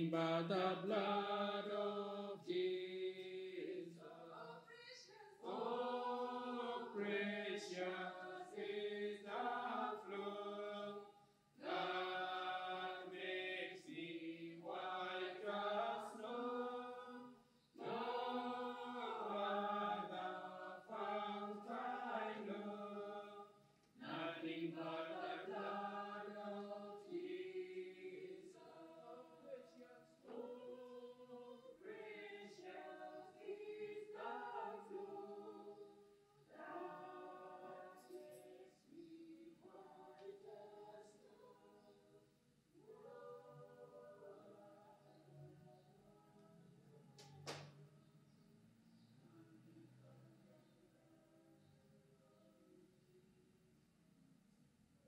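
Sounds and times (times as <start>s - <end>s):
group singing a hymn: 0.0s - 46.5s.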